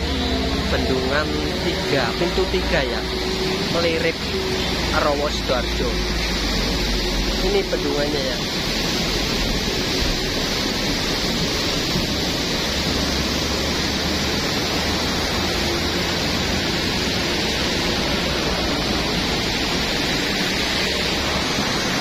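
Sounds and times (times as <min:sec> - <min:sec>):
water rushing over weir: 0:00.0 - 0:22.0.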